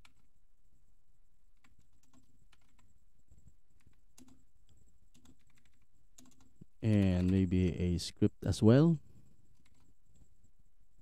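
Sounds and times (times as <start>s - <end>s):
faint keyboard typing: 0.0s - 7.8s, 9.1s - 11.0s.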